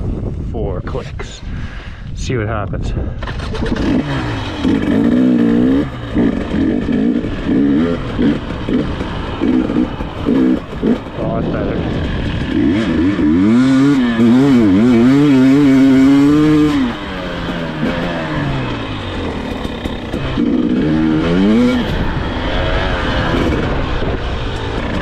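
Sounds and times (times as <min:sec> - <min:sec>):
dirt bike engine revving: 0:03.2 - 0:25.0.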